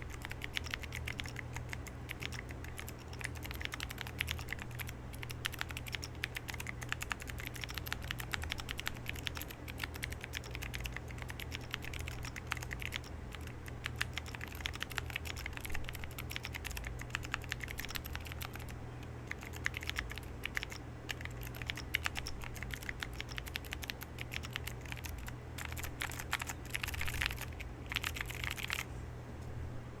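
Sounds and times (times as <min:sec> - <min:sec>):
fast keyboard typing: 0:00.0 - 0:28.9
steady low hum: 0:00.0 - 0:30.0.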